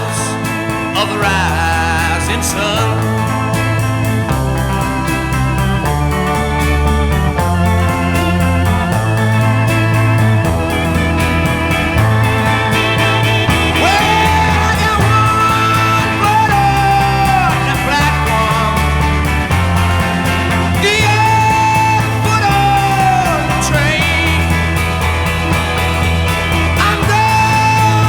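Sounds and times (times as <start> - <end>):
bass line: 0.0 - 28.0
drums: 0.0 - 28.0
electric organ solo: 0.0 - 28.0
guitar: 0.0 - 28.0.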